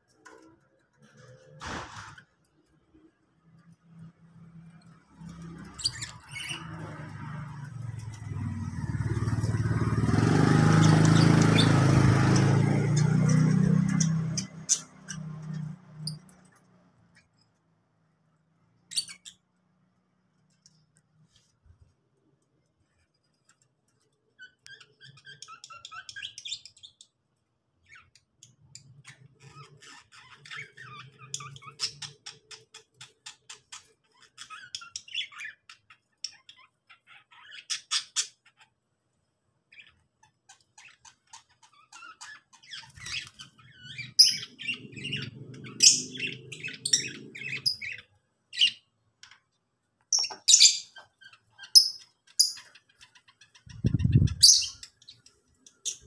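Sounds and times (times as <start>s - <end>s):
lovebirds chirping and squawking: 0.0s - 17.6s, 18.3s - 21.9s, 22.8s - 56.0s.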